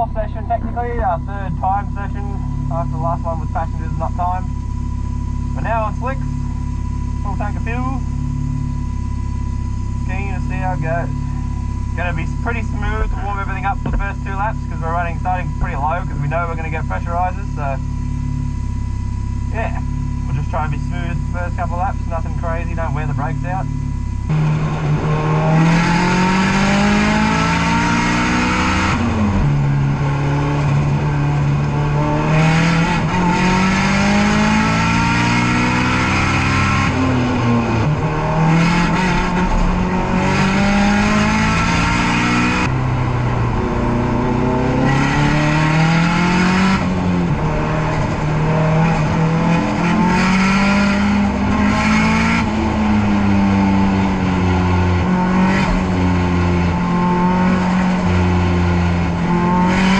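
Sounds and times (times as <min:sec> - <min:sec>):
turbocharged car engine revving: 0:00.0 - 0:59.9.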